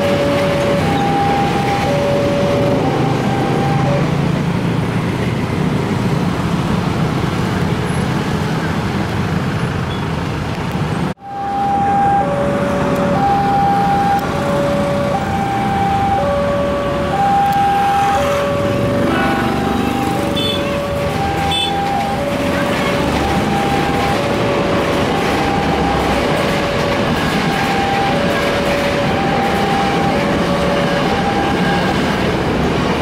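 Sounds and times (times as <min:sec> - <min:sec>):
motorcycle and car traffic: 0:00.0 - 0:33.0.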